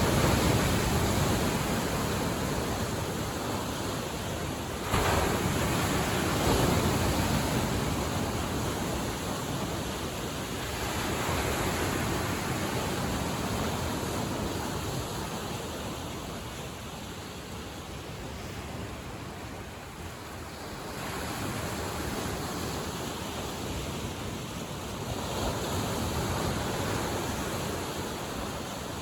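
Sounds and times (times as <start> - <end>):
waves breaking on shore: 0.0 - 29.0.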